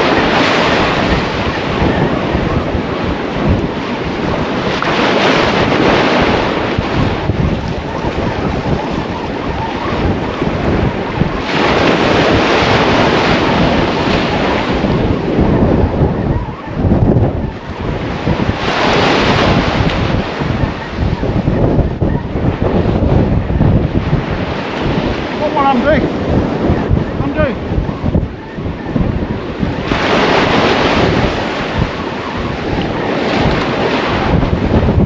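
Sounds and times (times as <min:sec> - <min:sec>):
small waves breaking on beach: 0:00.0 - 0:15.4, 0:17.7 - 0:21.4, 0:23.9 - 0:35.0
wind buffeting microphone: 0:00.0 - 0:35.0.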